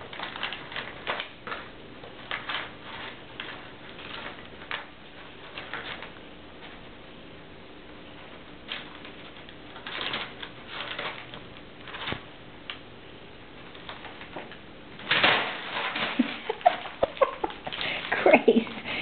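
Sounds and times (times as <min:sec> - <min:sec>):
paper crinkling and rustling: 0:00.0 - 0:07.0, 0:07.8 - 0:12.8, 0:13.5 - 0:18.6.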